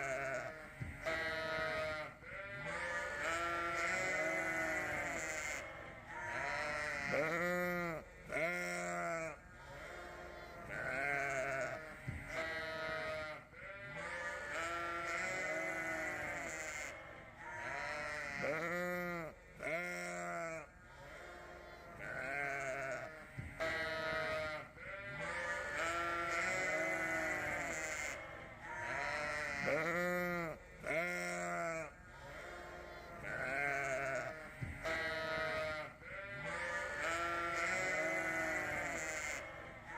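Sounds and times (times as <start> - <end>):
sheep bleating: 0.0 - 39.9.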